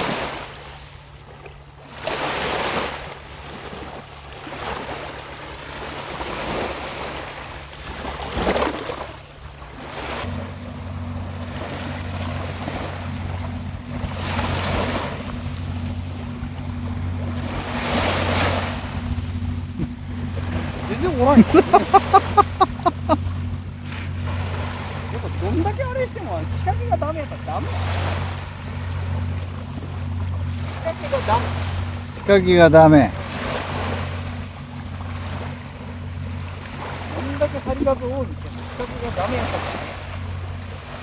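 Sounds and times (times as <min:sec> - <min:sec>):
steady low hum: 0:00.0 - 0:41.0
waves washing on sandy beach: 0:00.0 - 0:41.0.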